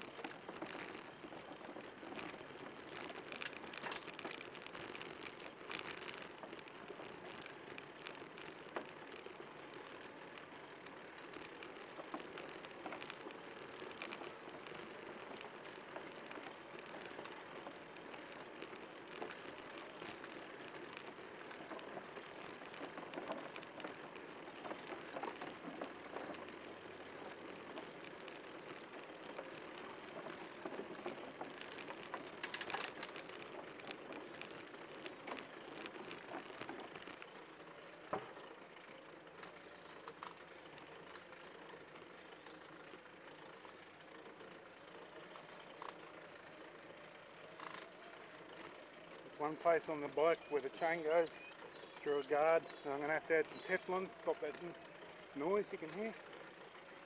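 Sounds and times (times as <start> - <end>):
tyres rolling over boardwalk: 0.0 - 57.0.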